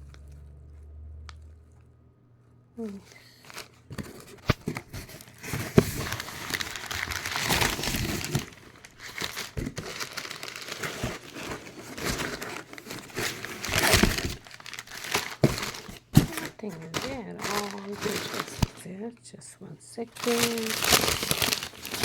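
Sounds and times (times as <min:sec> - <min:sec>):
packaging wrap crinkling and tearing: 0:02.8 - 0:18.8, 0:20.1 - 0:22.0.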